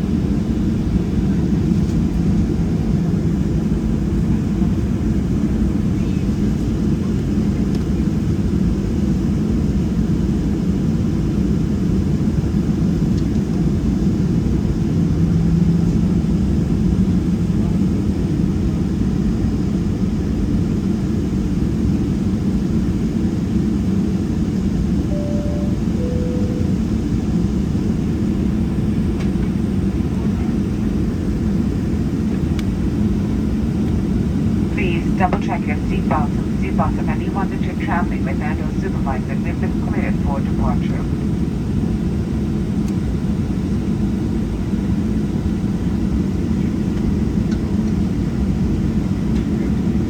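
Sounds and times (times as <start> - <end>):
aircraft engine rumble in cabin: 0.0 - 50.0.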